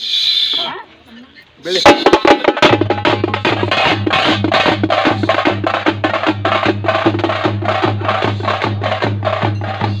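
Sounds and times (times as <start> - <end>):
drums beating fast rhythm: 1.8 - 10.0.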